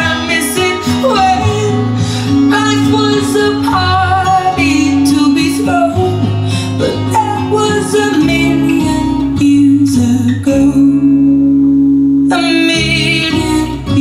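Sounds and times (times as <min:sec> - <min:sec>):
person singing: 0:00.0 - 0:11.5, 0:12.2 - 0:14.0
guitar: 0:00.0 - 0:14.0.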